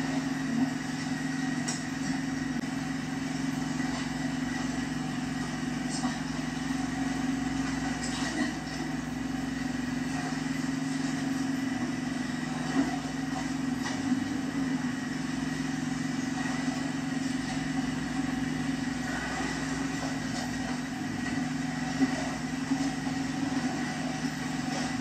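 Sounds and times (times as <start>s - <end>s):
engine idling hum: 0.0s - 25.0s.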